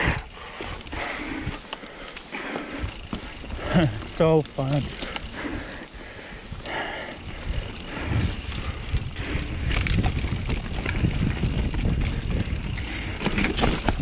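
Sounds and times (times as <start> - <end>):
bike rattling and clicking: 0.0 - 14.0
tyres rolling on rock and dirt: 0.4 - 5.9, 7.2 - 14.0.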